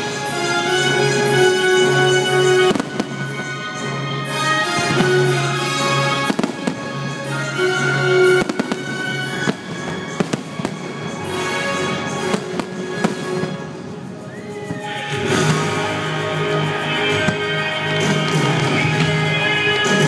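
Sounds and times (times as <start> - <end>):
fireworks bangs and crackles: 0.0 - 20.0
music: 0.0 - 20.0.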